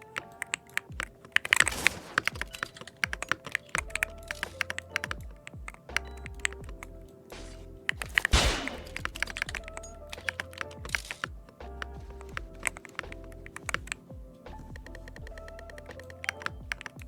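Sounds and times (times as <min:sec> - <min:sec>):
keyboard key clicks: 0:00.0 - 0:06.8, 0:07.8 - 0:14.1, 0:14.8 - 0:17.0
background music with bass pulses: 0:02.4 - 0:17.0.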